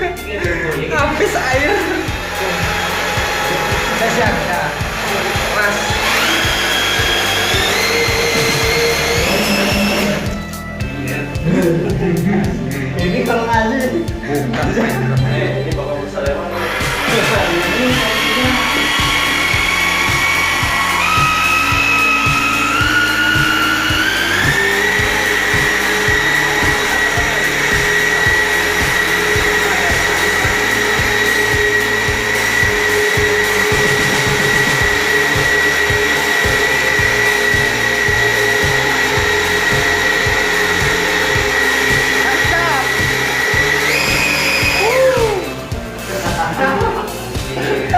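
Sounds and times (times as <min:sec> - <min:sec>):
motor whine: 0:00.0 - 0:11.3, 0:16.4 - 0:46.1
background music with steady beat: 0:00.0 - 0:47.9.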